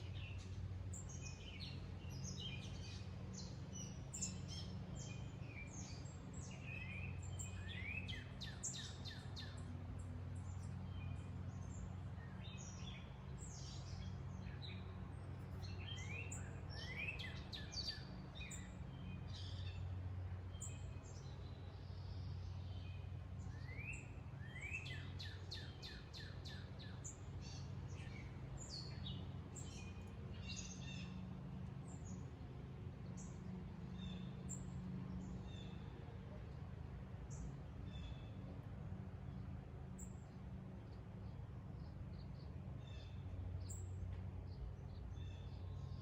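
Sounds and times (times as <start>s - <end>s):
songbirds chirping and singing: 0.0s - 38.5s.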